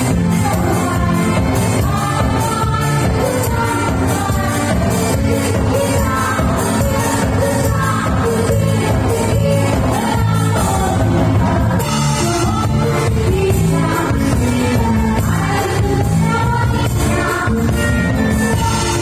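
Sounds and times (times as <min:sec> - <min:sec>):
drum kit: 0:00.0 - 0:19.0
electric guitars: 0:00.0 - 0:19.0
keyboard: 0:00.0 - 0:19.0
women singing lead: 0:00.0 - 0:19.0.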